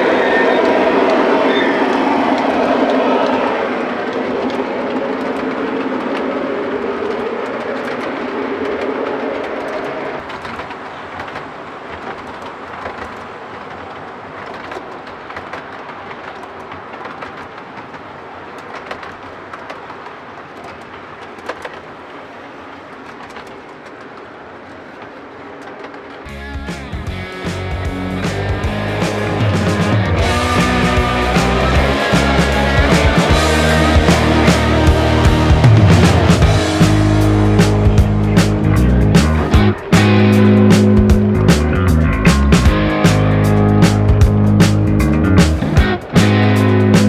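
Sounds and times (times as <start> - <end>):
model locomotive engine hum: 0.0 - 47.0
model train cars rumbling: 0.0 - 47.0
wheels clicking on track: 0.0 - 47.0.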